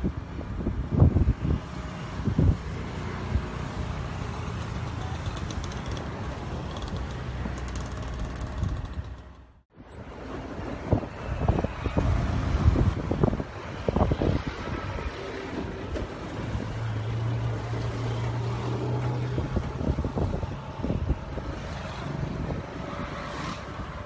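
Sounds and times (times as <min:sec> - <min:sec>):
wind buffeting microphone: 0:00.0 - 0:09.2, 0:10.5 - 0:17.6, 0:18.5 - 0:24.0.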